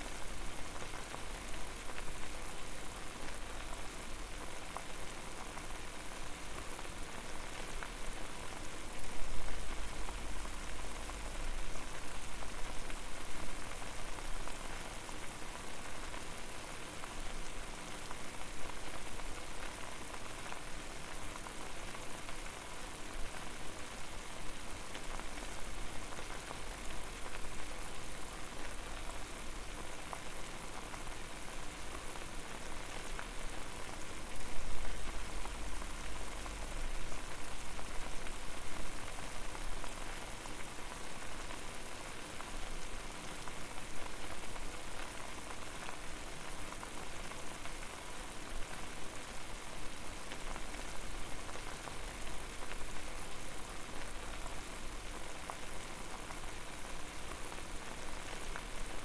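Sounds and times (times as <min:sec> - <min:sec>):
water boiling with pops: 0:00.0 - 0:59.0.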